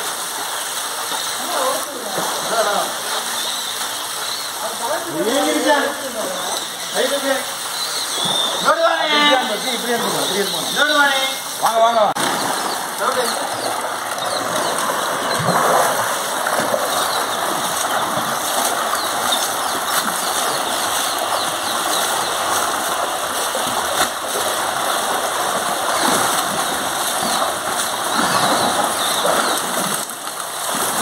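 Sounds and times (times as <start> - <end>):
stream of water pouring: 0.0 - 31.0
water splashing in a tank: 0.0 - 31.0.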